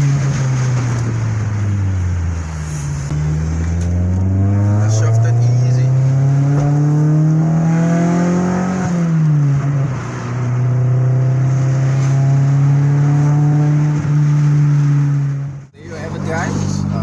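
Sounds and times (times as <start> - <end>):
car engine running: 0.0 - 11.6, 12.4 - 17.0.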